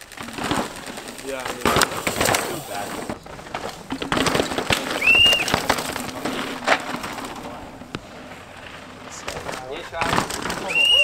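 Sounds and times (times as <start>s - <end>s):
bike knocking and clattering: 0.0s - 11.0s
bike tyres crunching over stones: 0.0s - 11.0s.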